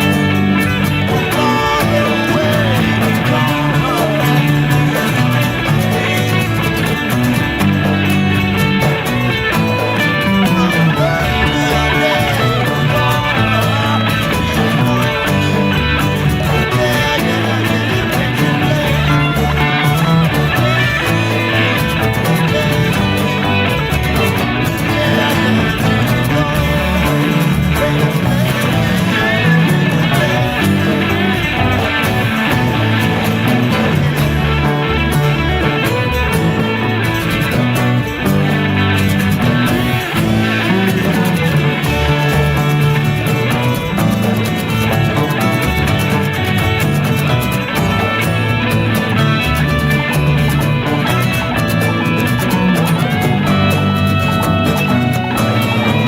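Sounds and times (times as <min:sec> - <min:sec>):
folk-rock guitars and bass: 0:00.0 - 0:56.0.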